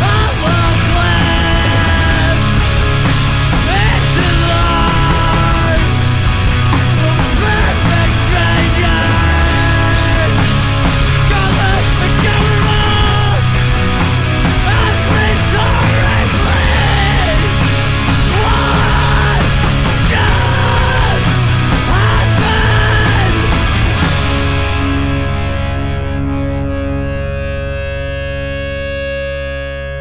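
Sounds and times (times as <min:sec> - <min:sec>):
punk rock band playing: 0:00.0 - 0:29.9.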